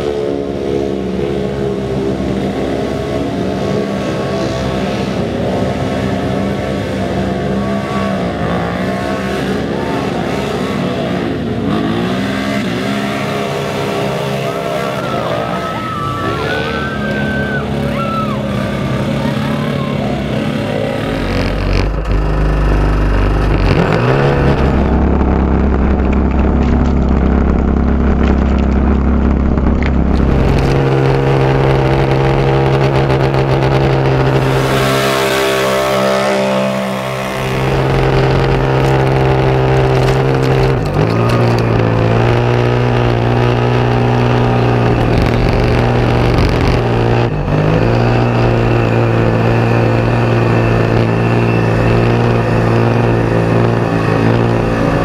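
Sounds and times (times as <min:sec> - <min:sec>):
engine running hard: 0:00.0 - 0:55.0.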